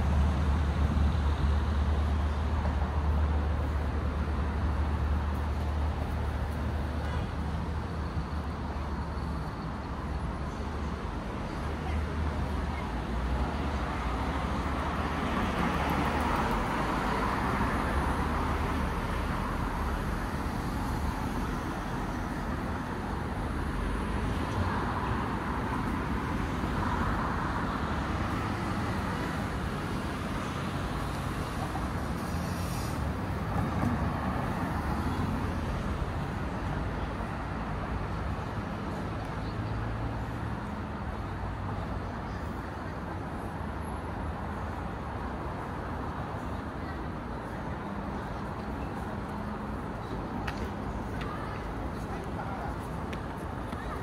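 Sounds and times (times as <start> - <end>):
low traffic rumble: 0.0 - 54.0
vehicles passing: 0.0 - 54.0.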